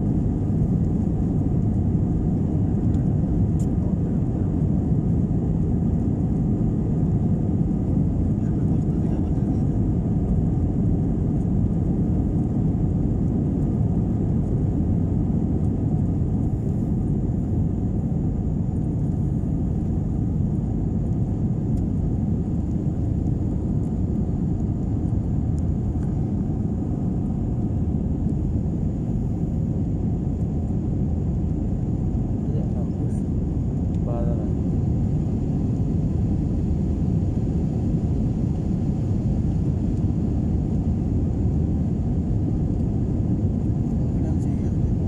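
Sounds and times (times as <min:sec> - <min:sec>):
jet engines rumbling in cabin: 0:00.0 - 0:45.0.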